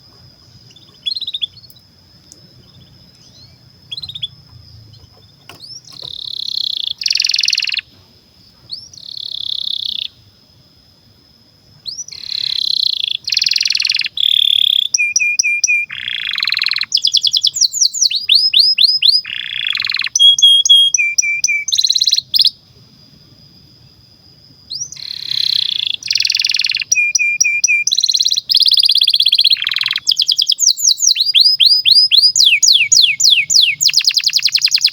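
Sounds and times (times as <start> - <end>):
canary singing trills: 0.0 - 10.3, 11.8 - 22.6, 24.6 - 34.9.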